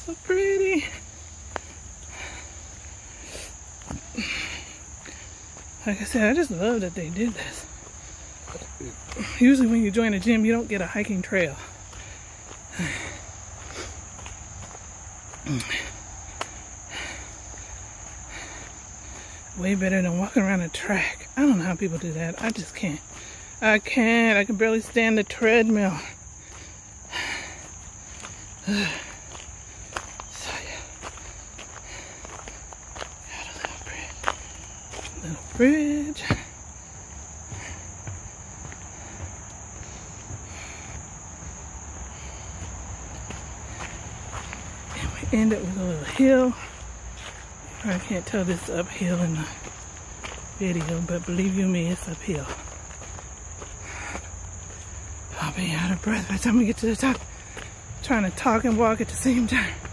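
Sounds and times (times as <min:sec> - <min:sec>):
footsteps on a trail: 0:00.0 - 0:59.9
insects droning: 0:00.0 - 0:59.9.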